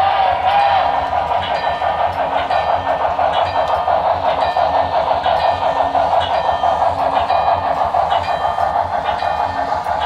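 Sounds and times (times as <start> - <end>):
model train wheels on track: 0.0 - 10.0
steam locomotive sound effects: 0.0 - 10.0.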